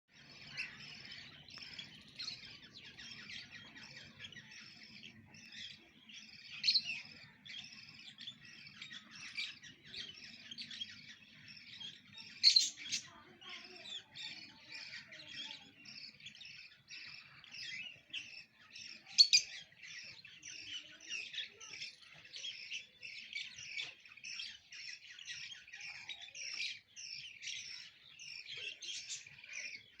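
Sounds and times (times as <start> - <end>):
small parrots chirping and chattering: 0.1 - 30.0.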